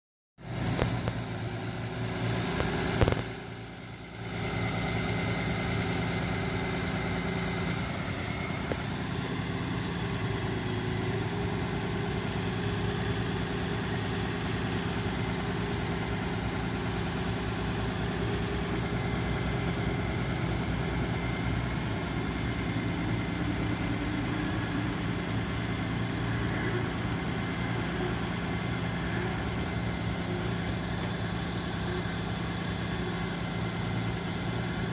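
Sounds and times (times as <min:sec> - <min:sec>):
truck engine idling: 0:00.4 - 0:34.9.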